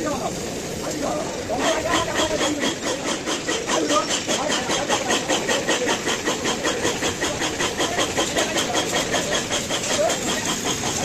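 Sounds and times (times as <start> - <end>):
welding arc crackling and hissing: 0.0 - 11.0.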